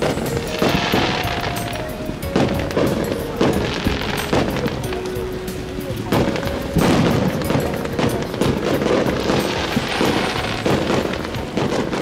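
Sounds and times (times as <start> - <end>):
fireworks bangs: 0.0 - 12.0
fireworks crackling: 0.0 - 12.0
music: 0.0 - 12.0.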